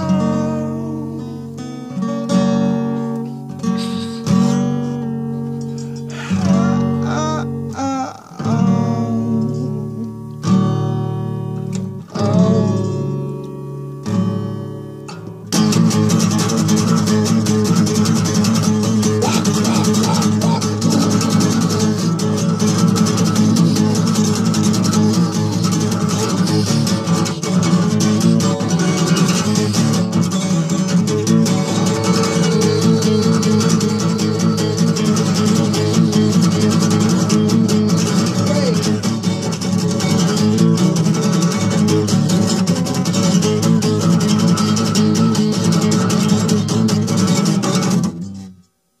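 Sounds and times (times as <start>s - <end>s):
guitar music: 0.0s - 48.7s.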